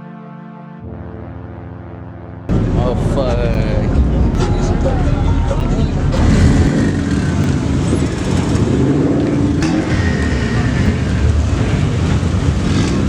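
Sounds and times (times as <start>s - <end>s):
car engine running loudly: 2.5s - 13.0s.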